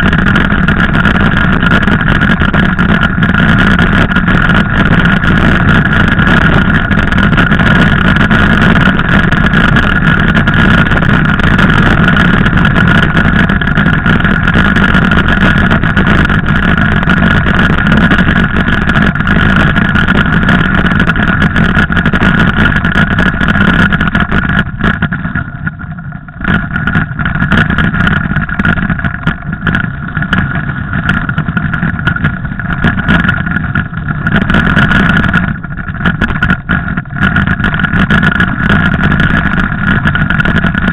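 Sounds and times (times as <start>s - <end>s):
steady high whine: 0.0s - 40.9s
wind rush and rattling: 0.0s - 40.9s.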